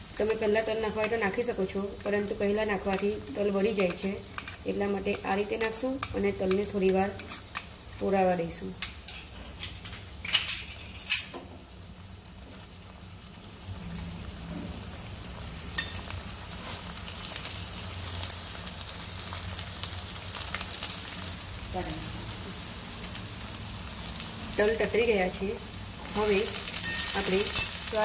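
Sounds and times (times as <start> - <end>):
seeds sizzling in hot oil: 0.0 - 28.0.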